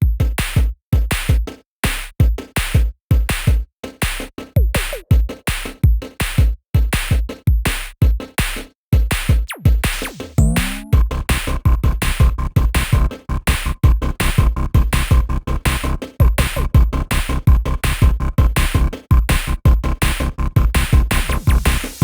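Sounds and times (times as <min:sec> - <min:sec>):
electronic music with drum-machine beat: 0:00.0 - 0:22.0.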